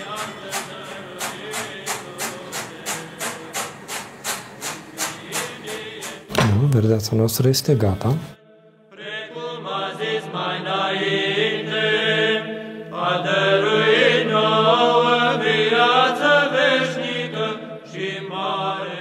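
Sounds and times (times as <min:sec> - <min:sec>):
choir chanting over low drone: 0:00.0 - 0:04.0, 0:04.7 - 0:06.3, 0:08.4 - 0:19.0.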